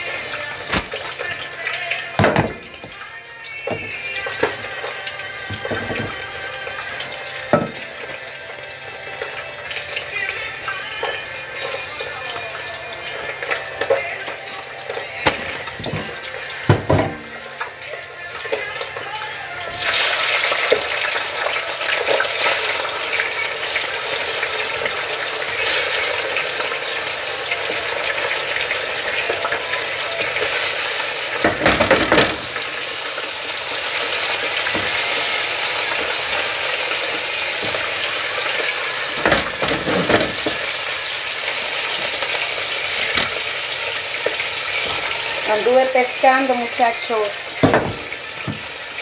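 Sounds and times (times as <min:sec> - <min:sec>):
food sizzling in a frying pan: 0:00.0 - 0:49.0.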